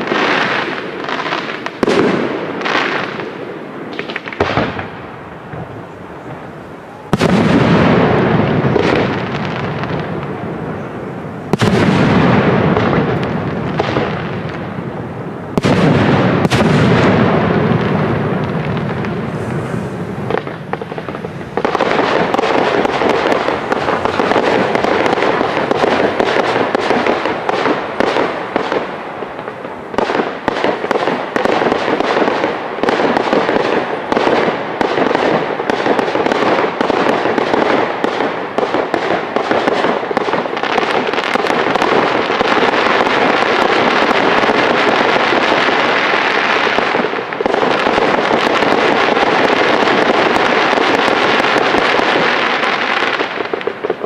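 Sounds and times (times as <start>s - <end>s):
fireworks popping and crackling: 0.0s - 54.0s.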